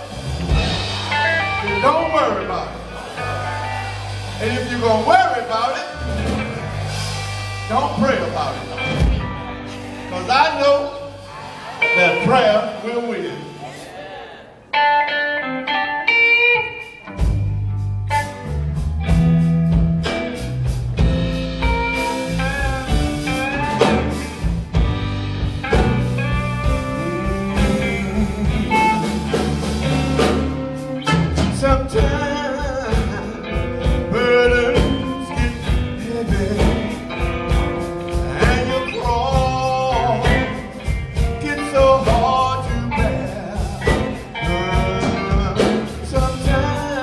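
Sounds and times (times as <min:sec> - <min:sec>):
low bass line: 0:00.0 - 0:12.3, 0:17.2 - 0:47.0
drum kit: 0:00.0 - 0:14.2, 0:16.0 - 0:47.0
electric guitar: 0:00.0 - 0:47.0
gospel band playing: 0:00.0 - 0:47.0.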